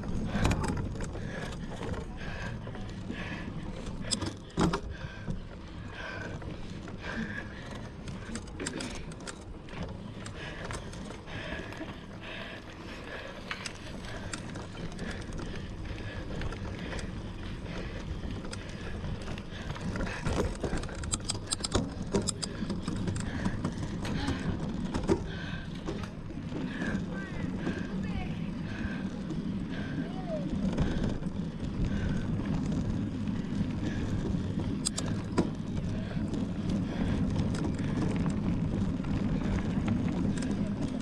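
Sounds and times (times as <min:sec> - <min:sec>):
bike chain and frame rattling: 0:00.0 - 0:41.0.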